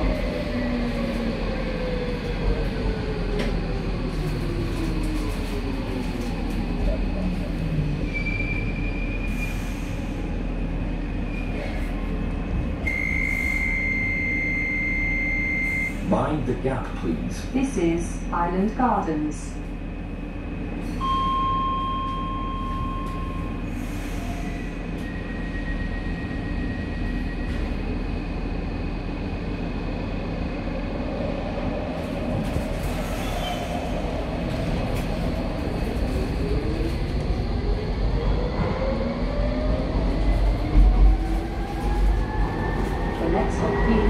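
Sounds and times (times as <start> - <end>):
train low rumble: 0.0 - 44.0.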